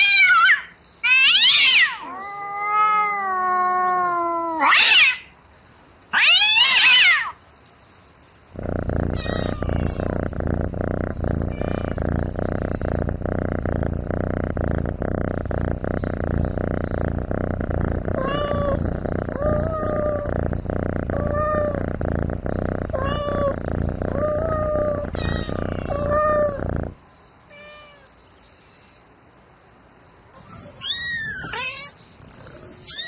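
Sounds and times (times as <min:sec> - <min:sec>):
cat yowling: 0:00.0 - 0:05.3, 0:06.1 - 0:07.4, 0:08.7 - 0:26.9, 0:30.4 - 0:33.0.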